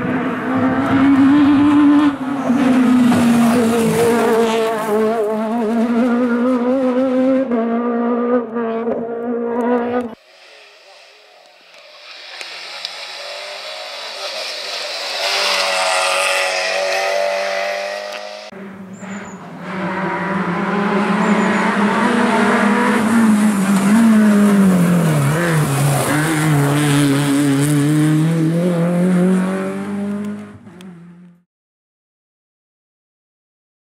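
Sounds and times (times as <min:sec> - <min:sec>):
rally car engine accelerating: 0:00.0 - 0:31.4.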